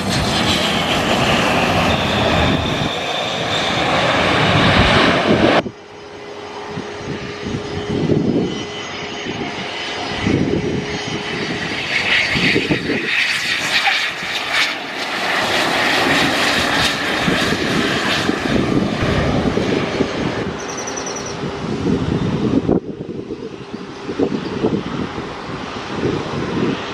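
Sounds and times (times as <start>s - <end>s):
jet engine whine: 0.0s - 26.9s.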